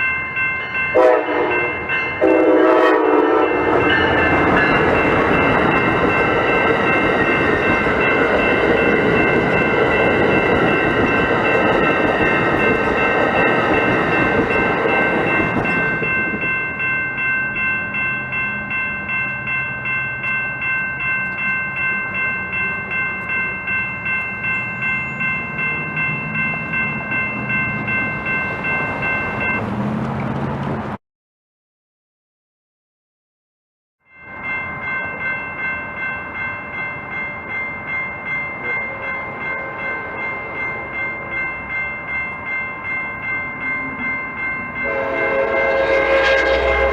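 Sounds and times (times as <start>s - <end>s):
pulsing ringing tones: 0.0s - 29.6s, 34.2s - 46.9s
train passing with rumble: 0.0s - 31.0s, 34.3s - 46.9s.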